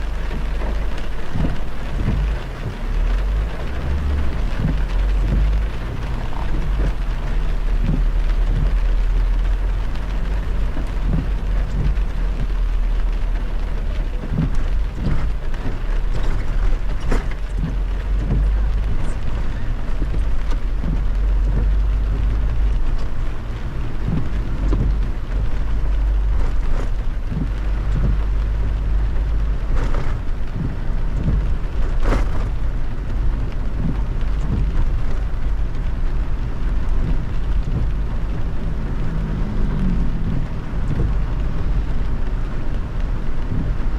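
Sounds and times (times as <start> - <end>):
heavy rain on a car: 0.0 - 43.9
raindrops hitting sharply: 0.0 - 43.9
road and driving rumble: 0.0 - 43.9.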